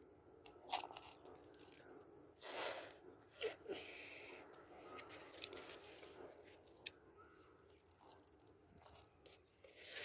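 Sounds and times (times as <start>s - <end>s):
faint crunching and rustling handling: 0.4s - 10.0s.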